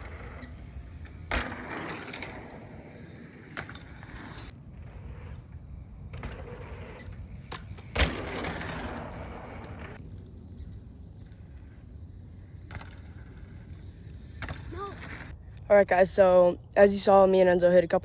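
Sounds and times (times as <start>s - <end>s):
bike tyres rolling on dirt: 0.0s - 15.4s.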